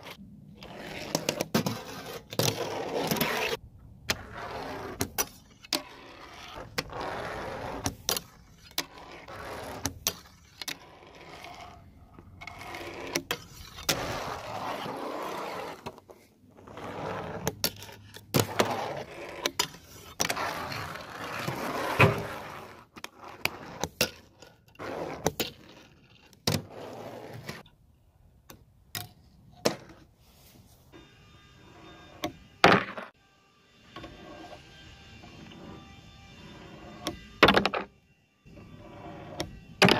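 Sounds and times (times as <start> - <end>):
small wheels rolling and scraping: 0.0 - 27.7, 34.0 - 37.9, 38.5 - 39.9.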